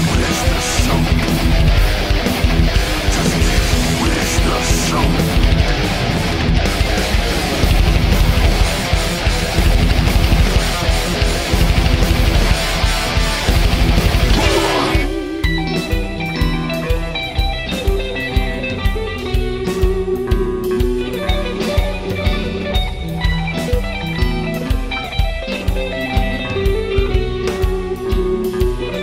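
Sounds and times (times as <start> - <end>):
electric guitar lead: 0.0 - 29.0
steady rock beat: 0.0 - 29.0.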